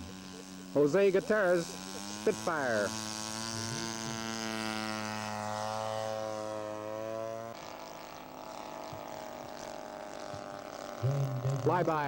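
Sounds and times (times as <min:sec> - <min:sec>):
model plane engine: 0:00.0 - 0:12.0.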